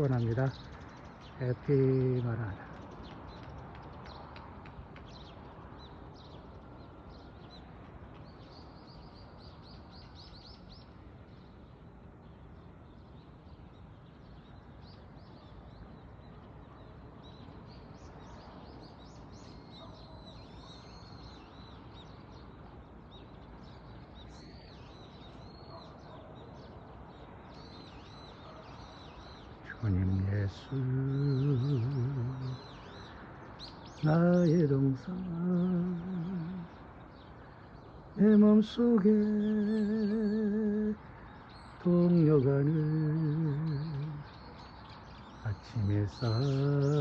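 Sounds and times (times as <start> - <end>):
outdoor background hiss: 0.0 - 47.0
small birds chirping: 0.0 - 47.0.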